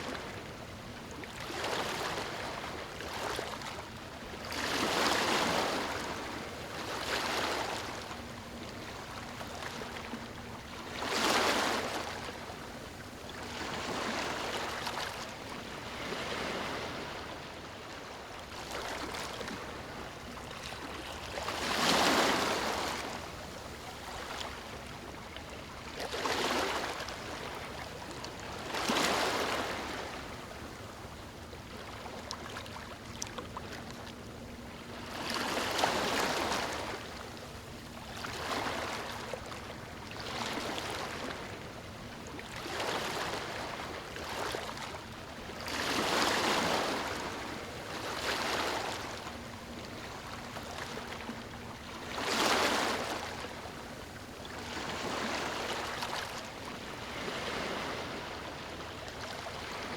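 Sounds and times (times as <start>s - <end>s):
small waves lapping on beach: 0.0s - 59.9s.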